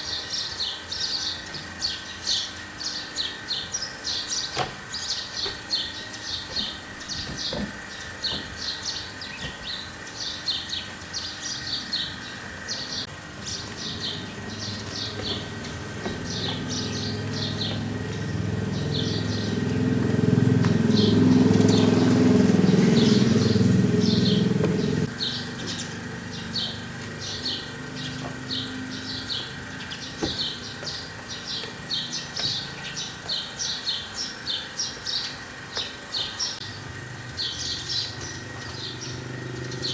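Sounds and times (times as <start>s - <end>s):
small birds chirping: 0.0s - 39.9s
low motor hum: 3.8s - 39.9s.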